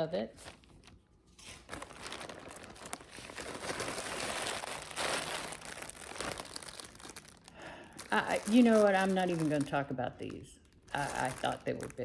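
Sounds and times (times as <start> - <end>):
packaging crinkling: 0.4 - 12.0.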